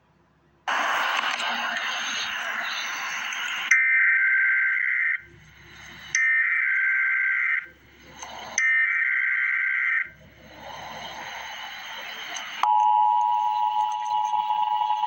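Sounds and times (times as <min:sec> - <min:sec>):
two-tone digital data bursts: 0:01.2 - 0:15.0.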